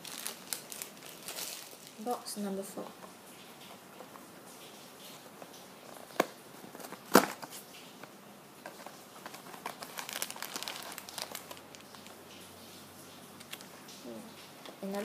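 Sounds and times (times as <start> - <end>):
packaging crinkling: 0.0 - 2.3, 2.9 - 12.5, 13.4 - 14.0.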